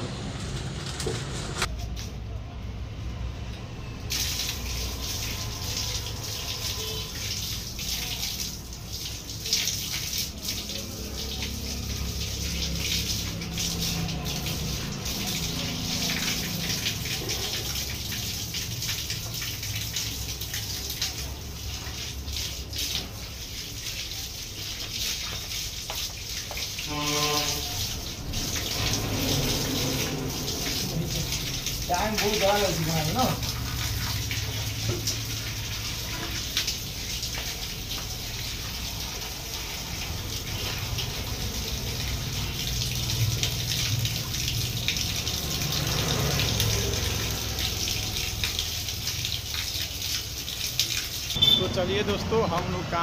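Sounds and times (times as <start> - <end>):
water splashing on concrete: 4.0 - 53.0.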